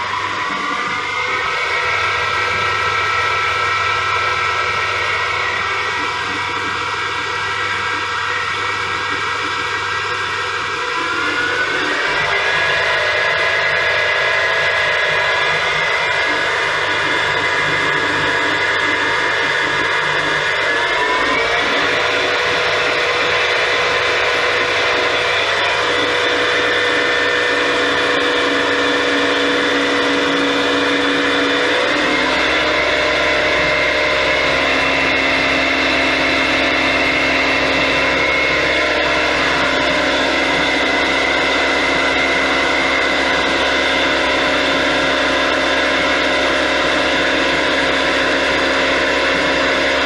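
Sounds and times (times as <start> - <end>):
low hum: 0.0 - 50.0
milling machine whine: 0.0 - 50.0.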